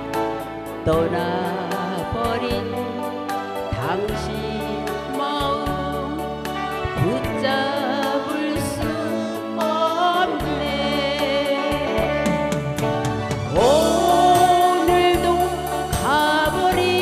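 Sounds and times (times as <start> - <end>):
instrumental accompaniment with beat: 0.0 - 17.0
woman singing into microphone: 0.0 - 17.0.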